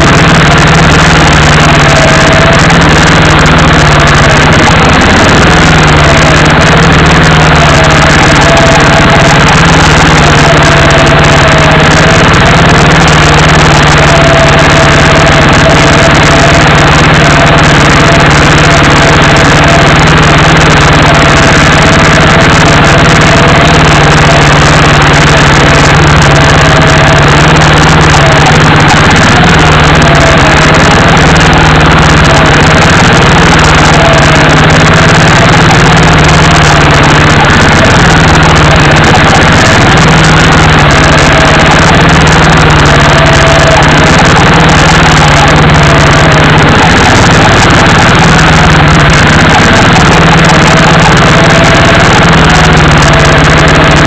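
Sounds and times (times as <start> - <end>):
off-road vehicle motor whining: 0.0 - 54.0.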